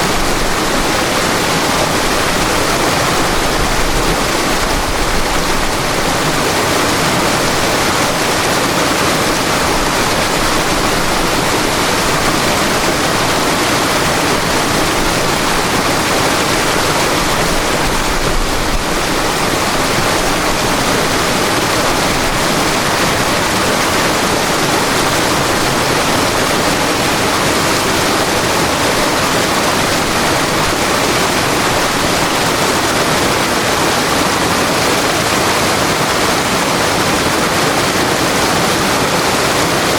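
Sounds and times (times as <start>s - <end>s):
river water rushing and splashing: 0.0s - 39.9s.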